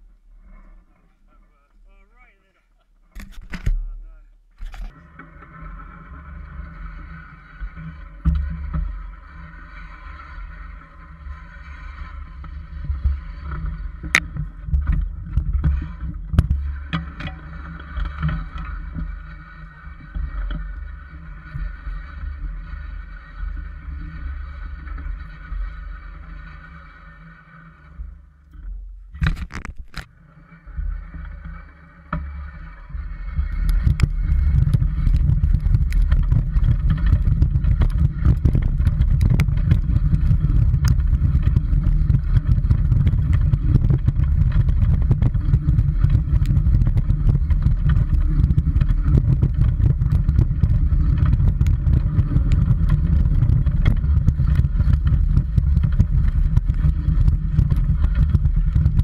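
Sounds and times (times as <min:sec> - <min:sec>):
scooter wheels rumbling over gravel: 0:04.6 - 0:28.4, 0:29.2 - 0:59.0.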